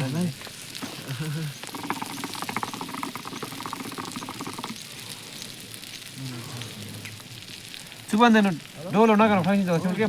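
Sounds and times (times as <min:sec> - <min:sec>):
meat sizzling over open fire: 0:00.0 - 0:10.0.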